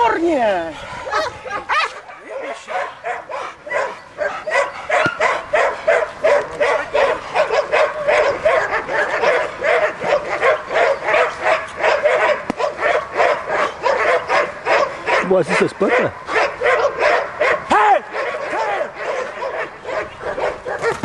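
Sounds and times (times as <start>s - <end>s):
dog barking rapidly: 1.1s - 21.0s.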